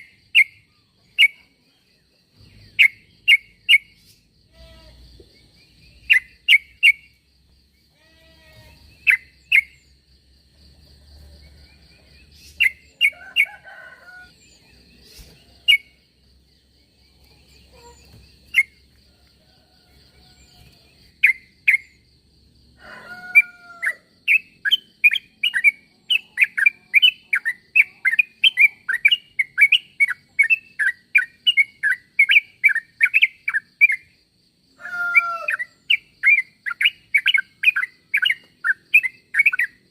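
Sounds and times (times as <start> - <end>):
bird chirping: 0.0 - 19.2, 19.9 - 22.2, 23.2 - 34.2, 34.9 - 39.9.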